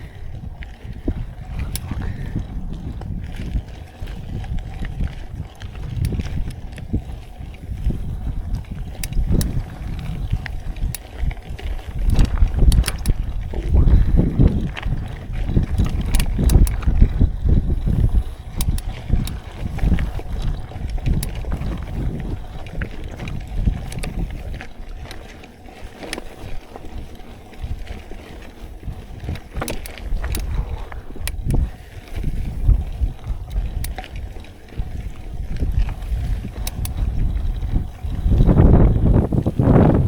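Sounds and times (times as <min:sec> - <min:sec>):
bike clicks and rattles: 0:00.0 - 0:40.0
wind buffeting microphone: 0:00.0 - 0:40.0.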